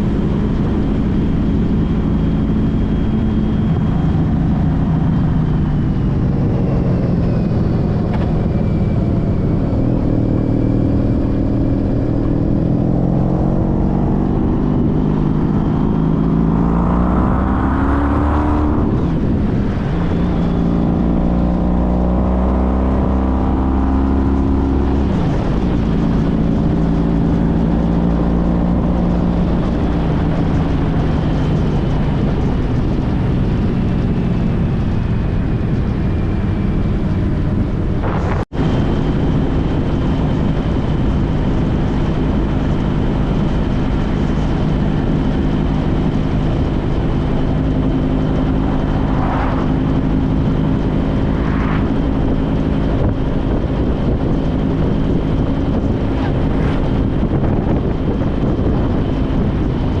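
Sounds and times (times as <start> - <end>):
motorcycle engine cruising: 0.0 - 60.0
wind noise on microphone: 0.0 - 60.0.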